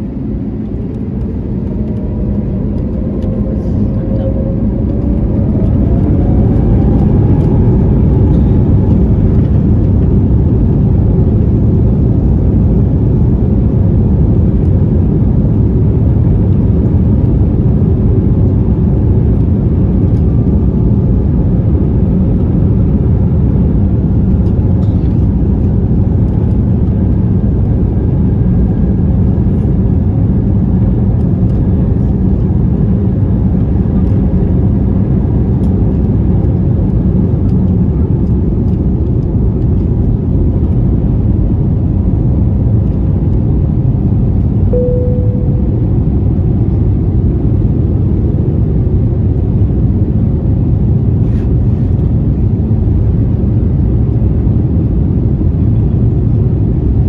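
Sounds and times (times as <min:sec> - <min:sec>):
jet engines whining: 0:00.0 - 0:50.3
low rumble of airliner rolling: 0:00.0 - 0:57.0.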